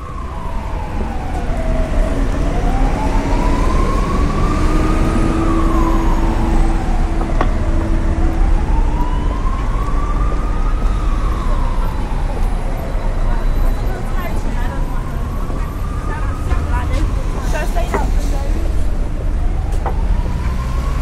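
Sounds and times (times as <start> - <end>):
emergency siren wailing: 0.0 - 21.0
low rumble of city traffic: 0.0 - 21.0.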